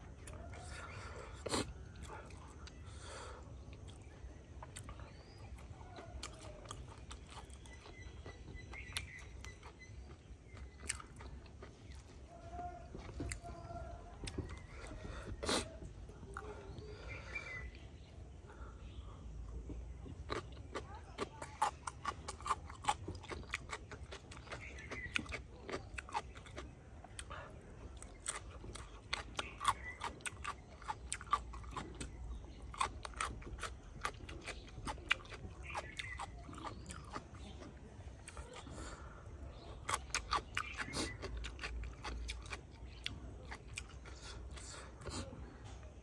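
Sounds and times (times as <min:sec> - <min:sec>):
person chewing with open mouth: 0:00.0 - 0:46.0.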